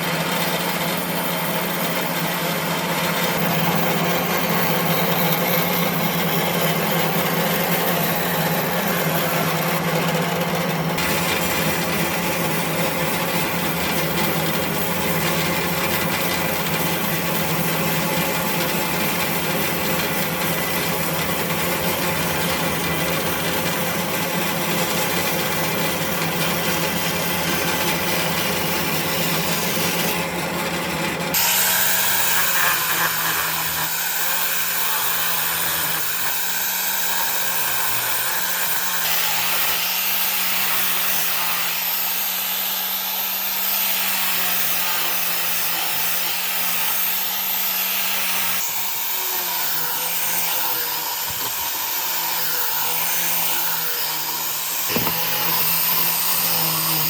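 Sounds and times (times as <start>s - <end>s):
electric power tool on wood: 0.0s - 57.0s.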